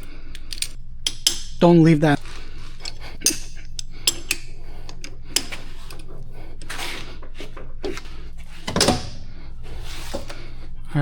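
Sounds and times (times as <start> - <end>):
metal tools clinking and knocking: 0.0 - 9.2
low machine hum: 0.0 - 11.0.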